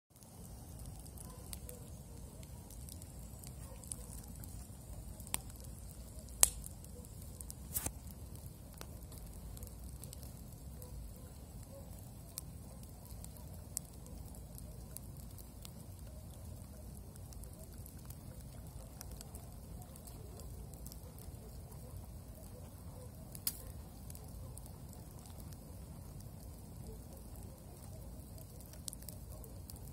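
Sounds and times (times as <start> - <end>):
campfire crackling and popping: 0.2 - 29.9.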